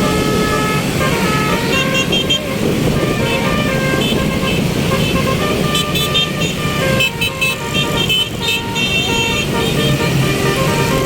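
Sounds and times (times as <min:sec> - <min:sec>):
engine and road noise: 0:00.0 - 0:11.0
multi-tone bus horn tune: 0:00.0 - 0:11.0.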